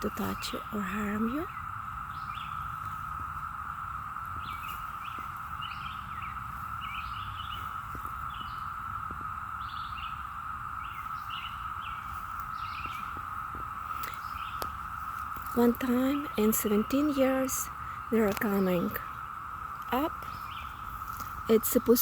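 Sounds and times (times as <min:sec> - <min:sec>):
birds chirping: 0:00.0 - 0:22.0
cicadas droning: 0:00.0 - 0:22.0.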